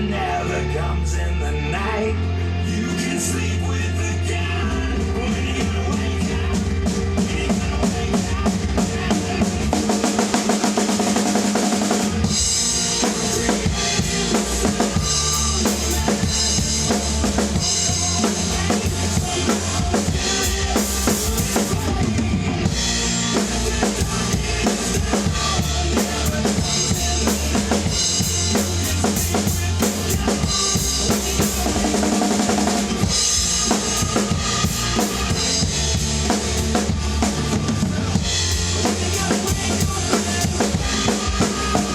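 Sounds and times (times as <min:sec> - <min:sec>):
rock song recording: 0:00.0 - 0:41.9
drum kit playing: 0:01.7 - 0:41.9.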